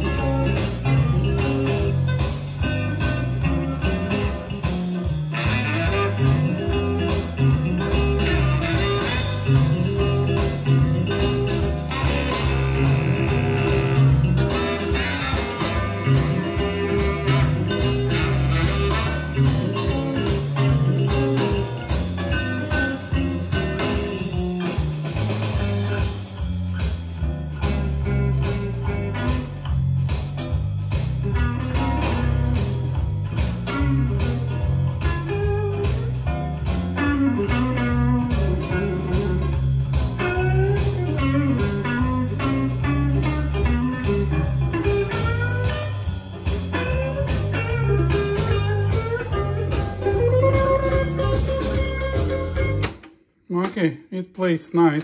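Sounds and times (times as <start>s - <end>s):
blues music from cassette: 0.0s - 53.3s.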